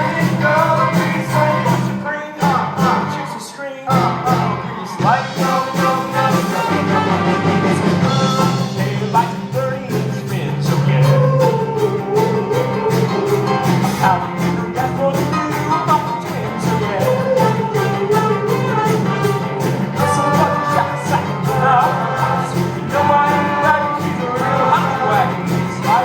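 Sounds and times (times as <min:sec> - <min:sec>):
band with steady beat: 0:00.0 - 0:03.1, 0:03.9 - 0:26.0
person singing: 0:00.0 - 0:26.0.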